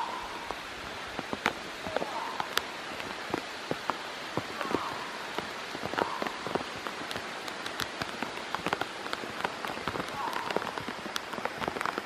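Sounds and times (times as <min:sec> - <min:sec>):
raindrops ticking close by: 0:00.0 - 0:12.0
steady rain falling: 0:00.0 - 0:12.0.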